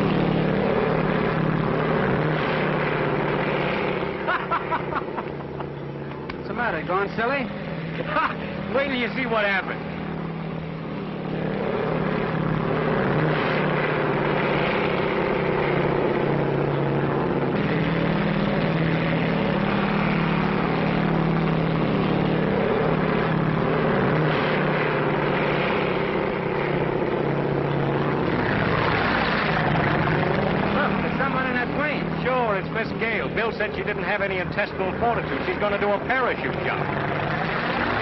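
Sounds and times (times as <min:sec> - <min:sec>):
propeller airplane engine droning: 0:00.0 - 0:38.0.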